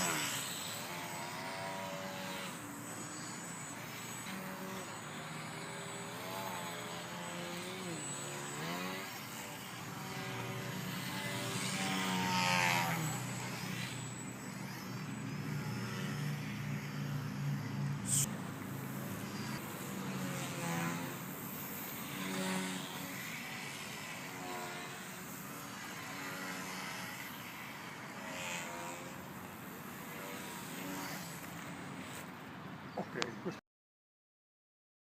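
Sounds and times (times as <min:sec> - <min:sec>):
model aircraft propeller whine: 0:00.0 - 0:33.3.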